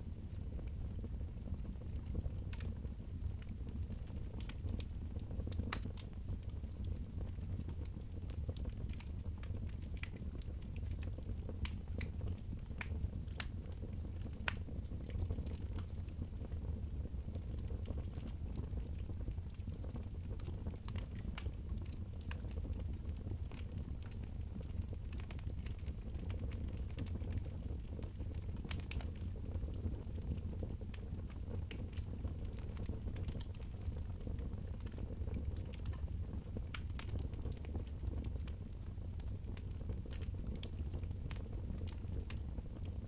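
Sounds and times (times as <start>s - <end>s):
low rumble of fire: 0.0s - 43.0s
wood fire crackling: 0.0s - 43.0s.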